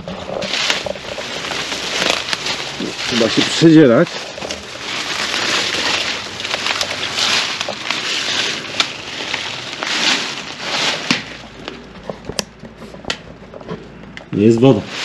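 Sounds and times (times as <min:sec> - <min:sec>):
brush rustling and crackling: 0:00.0 - 0:15.0
footsteps through undergrowth: 0:00.0 - 0:15.0
twigs snapping: 0:00.3 - 0:14.3.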